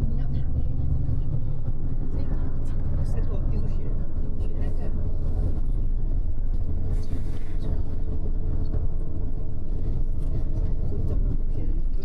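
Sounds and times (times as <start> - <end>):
bus engine and tyres rumbling: 0.0 - 12.0.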